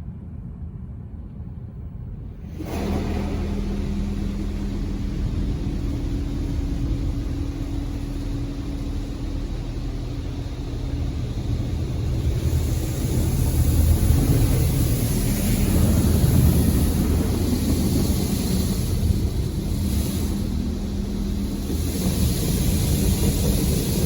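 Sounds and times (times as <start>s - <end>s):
low pump hum: 0.0s - 24.0s
water spraying onto car: 2.5s - 24.0s.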